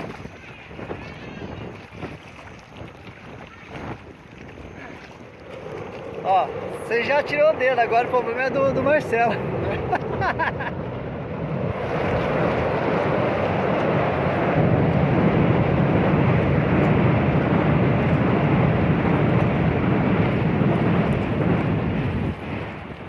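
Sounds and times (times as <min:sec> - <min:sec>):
boat motor: 0:00.0 - 0:23.0
water rushing: 0:00.0 - 0:23.0
wind noise on microphone: 0:00.0 - 0:23.0.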